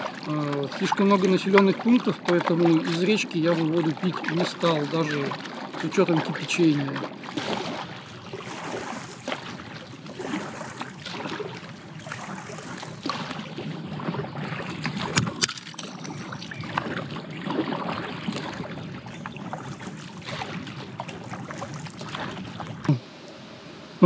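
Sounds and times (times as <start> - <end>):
paddle splashing in water: 0.0 - 23.1
water lapping against raft: 0.0 - 23.3.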